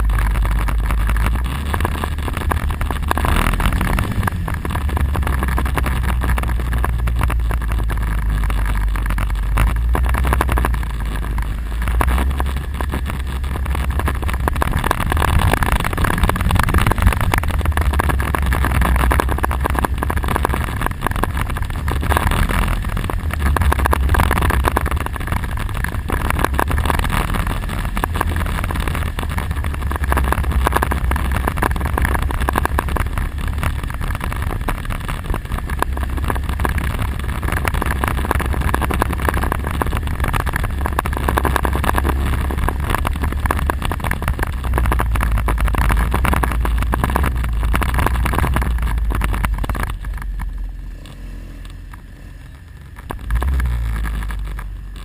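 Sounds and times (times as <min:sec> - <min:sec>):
atv engine running: 0:00.0 - 0:55.0
wind buffeting microphone: 0:02.9 - 0:50.6.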